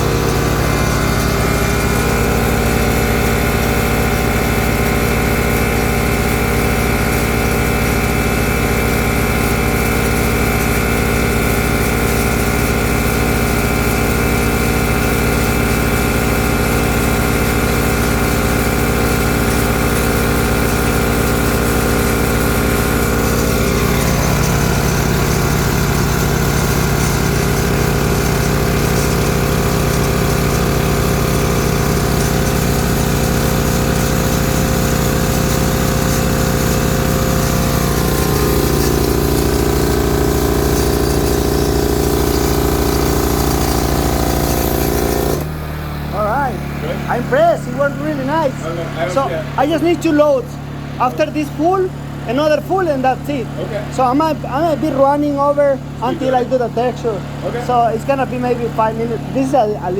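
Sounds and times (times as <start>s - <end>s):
generator engine running: 0.0s - 59.9s.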